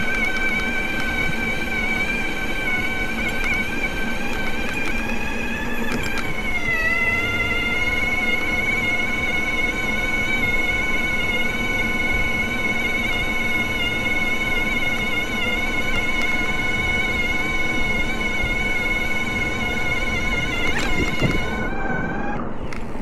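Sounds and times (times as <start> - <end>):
electric bike motor whining: 0.0 - 23.0.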